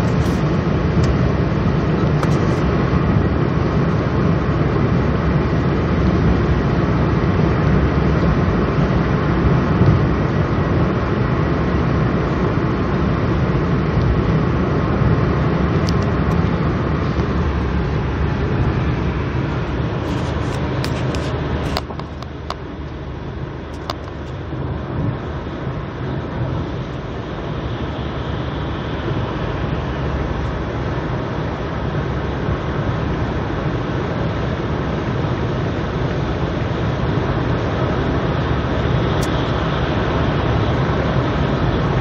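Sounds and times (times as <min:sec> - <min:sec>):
car road and wind noise: 0:00.0 - 0:42.0.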